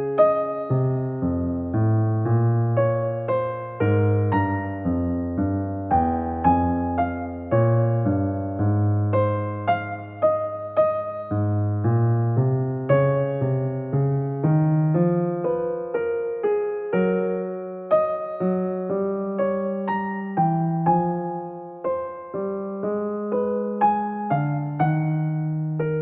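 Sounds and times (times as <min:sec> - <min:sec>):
gentle piano notes: 0:00.0 - 0:26.0.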